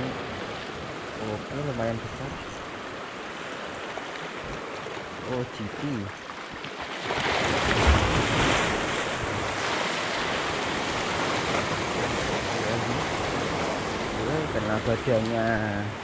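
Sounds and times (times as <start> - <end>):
sea waves washing over rocks: 0.0 - 16.0.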